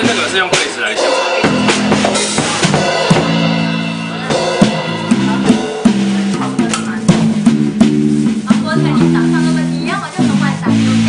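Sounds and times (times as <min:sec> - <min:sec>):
drum kit beat: 0:00.0 - 0:11.0
bass line low notes: 0:01.0 - 0:11.0.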